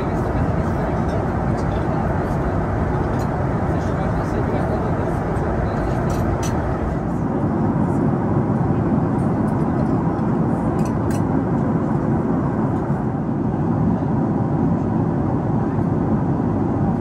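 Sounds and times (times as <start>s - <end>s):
aircraft engine noise: 0.0s - 17.0s
airflow rush in cabin: 0.0s - 17.0s.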